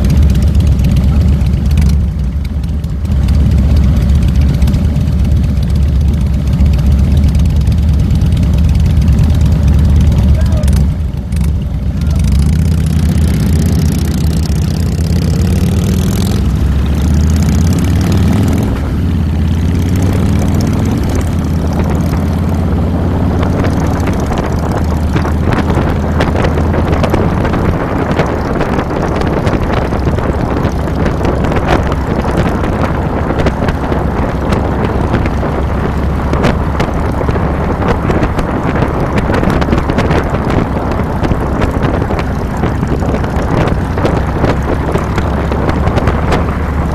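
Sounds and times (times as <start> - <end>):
motorcycle engine running: 0.0 - 46.9
wind and road noise: 0.0 - 46.9.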